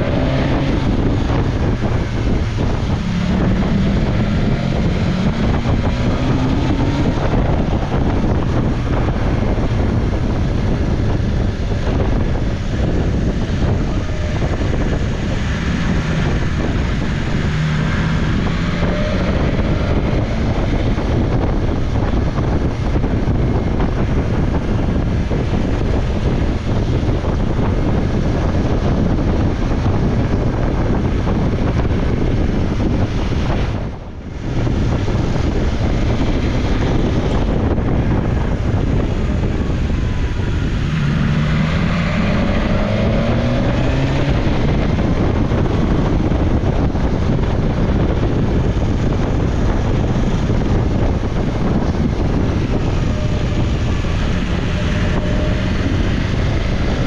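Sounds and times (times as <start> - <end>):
motorcycle engine: 0.0 - 57.0
wind rush on microphone: 0.0 - 57.0.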